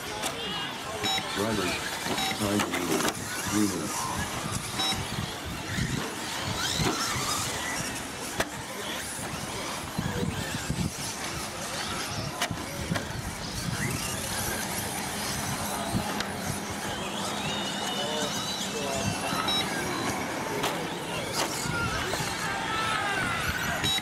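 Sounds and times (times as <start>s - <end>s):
toy car motor whine: 0.0s - 24.0s.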